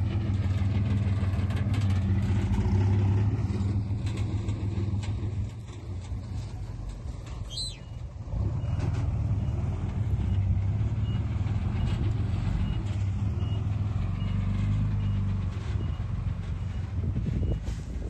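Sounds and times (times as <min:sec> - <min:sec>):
heavy machinery diesel engine drone: 0:00.0 - 0:18.0.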